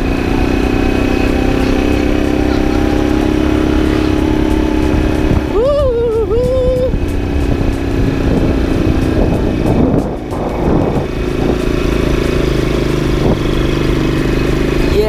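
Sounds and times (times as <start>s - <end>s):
motorcycle engine under load: 0.0s - 15.0s
wind on microphone: 0.0s - 15.0s.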